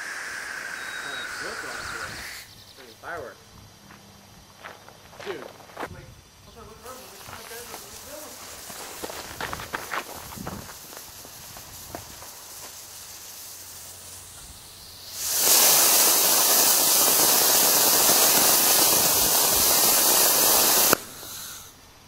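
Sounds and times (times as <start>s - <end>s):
rocket motor hissing: 0.0s - 3.7s, 6.2s - 22.0s.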